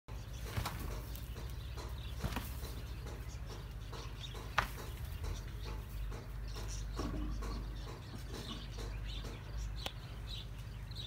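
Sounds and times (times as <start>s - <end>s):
steady low hum: 0.1s - 11.0s
sharp knocks: 0.4s - 9.6s.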